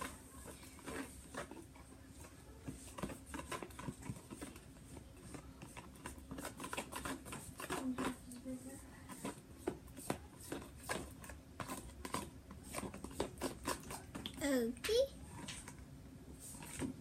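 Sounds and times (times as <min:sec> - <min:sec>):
spoon scraping a bowl: 0:00.0 - 0:14.3.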